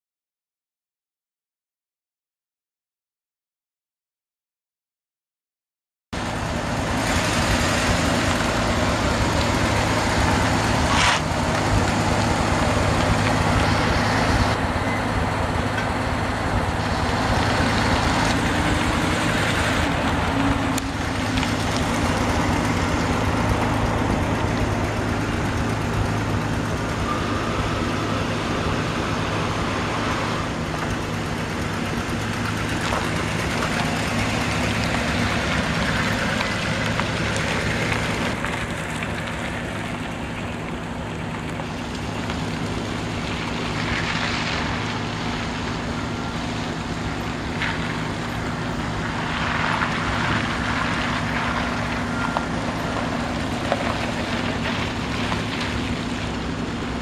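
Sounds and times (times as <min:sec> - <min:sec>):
tyre and road noise: 0:06.1 - 0:57.0
truck engine running: 0:06.2 - 0:57.0.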